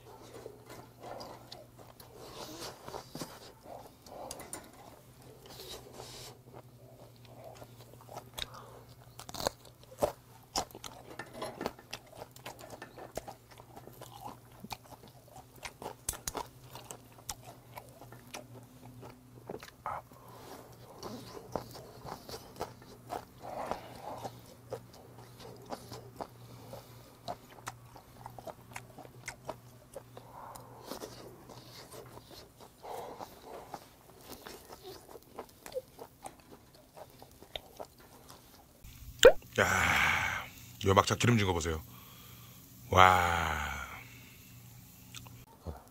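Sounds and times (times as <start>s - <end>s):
chewing and biting: 0.0s - 39.4s, 45.1s - 45.9s
steady low hum: 0.0s - 45.9s.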